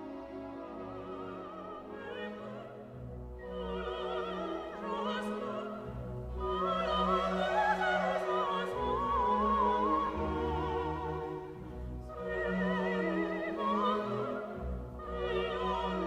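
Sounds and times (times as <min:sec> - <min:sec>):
orchestral accompaniment: 0:00.0 - 0:16.0.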